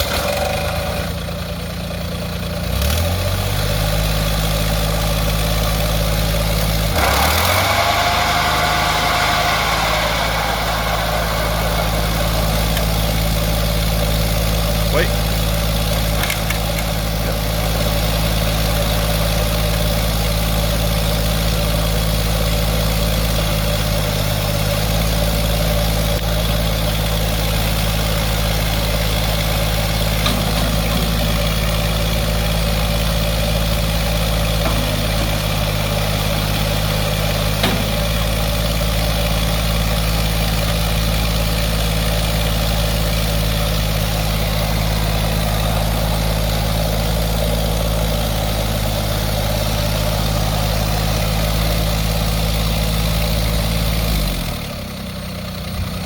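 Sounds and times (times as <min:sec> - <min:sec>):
tractor diesel engine idling: 0:00.0 - 0:56.0.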